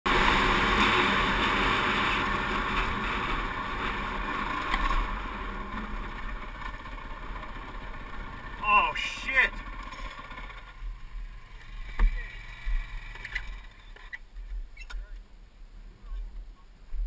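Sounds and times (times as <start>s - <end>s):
dirt bike engine running: 0.1s - 14.6s.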